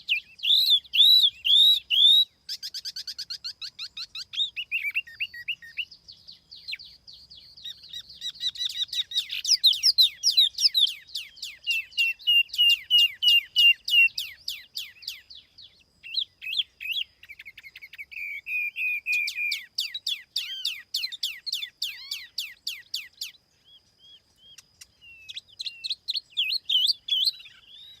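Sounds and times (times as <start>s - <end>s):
songbird whistled song: 0.0s - 28.0s.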